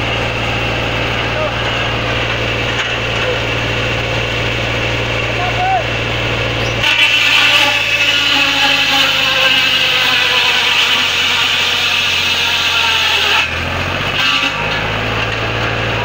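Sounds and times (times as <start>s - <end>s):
circular saw cutting wood: 0.0s - 16.0s
tractor engine humming: 0.0s - 16.0s.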